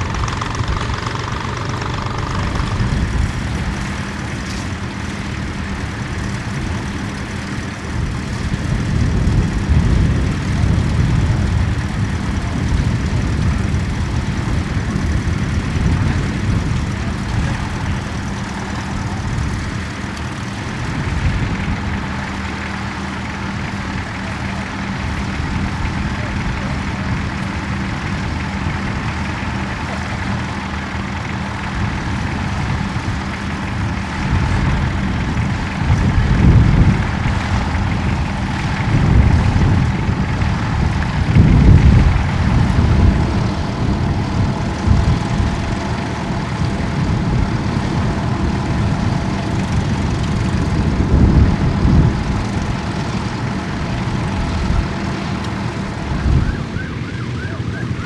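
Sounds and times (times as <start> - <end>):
drawn-out whine: 0.0 - 58.0
tractor engine running: 0.0 - 58.0
wind gusts on microphone: 0.0 - 58.0.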